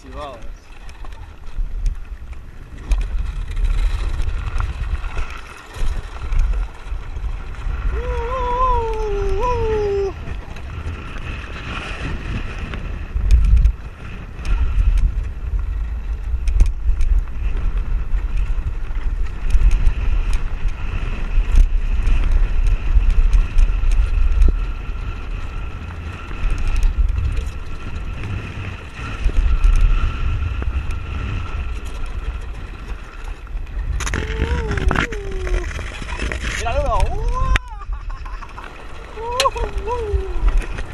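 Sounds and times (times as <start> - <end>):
small clicks and rattles: 0.0 - 7.6, 12.6 - 13.8, 14.4 - 38.8
wind rumble on microphone: 0.0 - 40.9.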